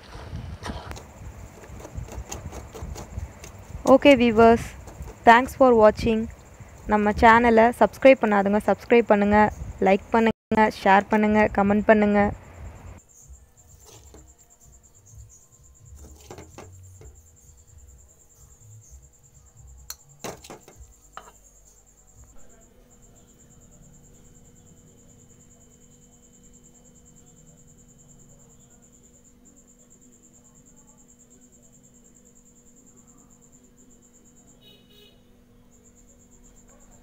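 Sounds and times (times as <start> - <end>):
cricket trilling: 0.0 - 37.0.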